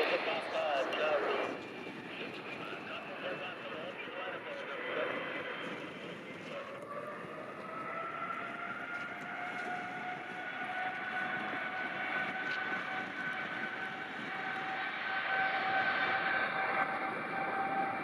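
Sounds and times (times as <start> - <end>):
jet engines roaring and whining: 0.0 - 18.0.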